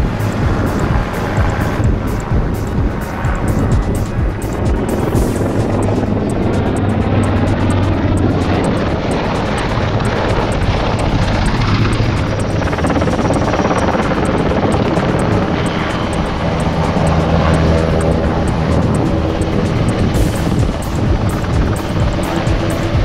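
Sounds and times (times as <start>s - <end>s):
helicopter flying past: 0.0s - 23.0s.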